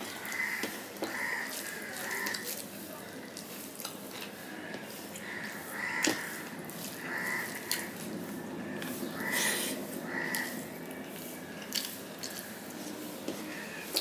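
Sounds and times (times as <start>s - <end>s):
wet chewing and mouth sounds: 0.1s - 2.7s, 3.3s - 14.0s.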